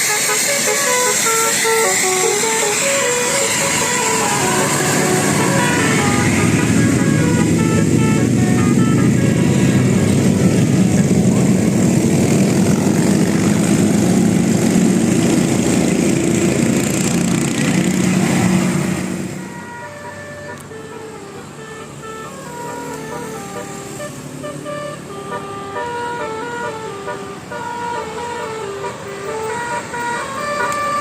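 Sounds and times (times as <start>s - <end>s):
bus engine running: 0.0s - 31.0s
multi-tone bus horn tune: 0.0s - 31.0s.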